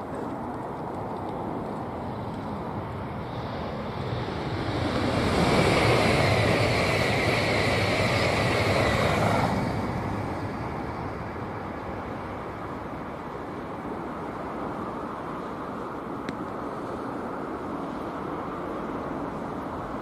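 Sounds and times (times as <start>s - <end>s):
train passing with rushing roar: 0.0s - 20.0s.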